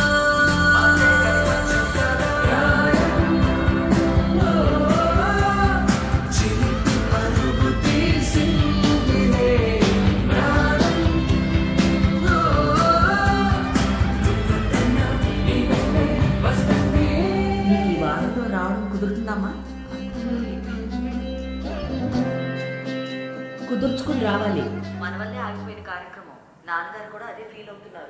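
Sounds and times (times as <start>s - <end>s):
sung melody over a beat: 0.0s - 25.8s.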